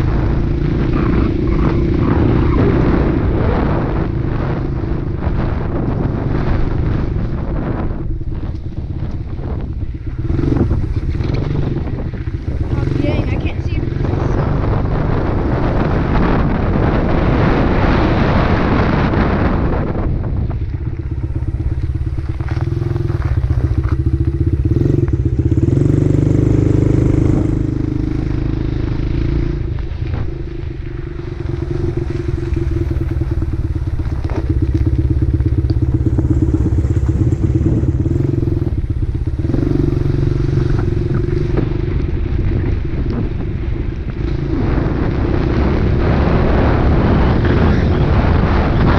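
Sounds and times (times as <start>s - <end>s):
dirt bike engine revving: 0.0s - 7.8s, 9.3s - 20.0s, 21.0s - 48.9s
wind on microphone: 0.0s - 48.9s.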